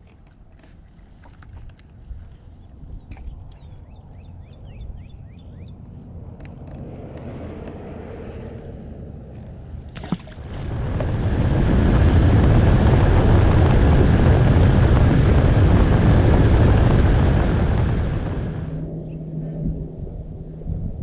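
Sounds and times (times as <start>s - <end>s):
boat hull and water noise: 0.0s - 19.1s
wind buffeting microphone: 1.4s - 9.2s, 9.9s - 21.0s.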